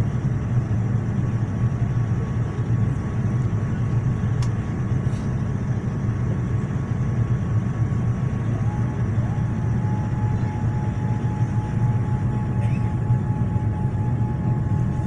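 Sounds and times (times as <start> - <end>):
engine and airflow rumble: 0.0 - 15.0.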